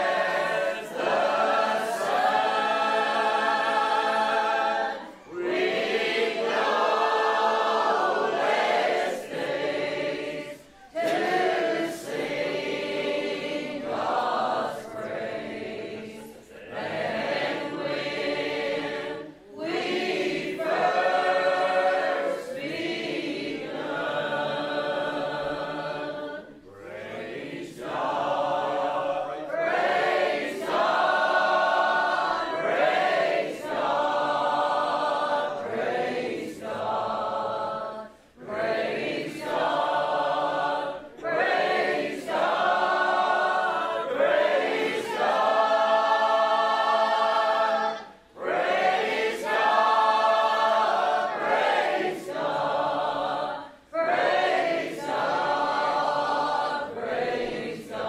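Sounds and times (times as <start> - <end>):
congregation singing: 0.0 - 58.0.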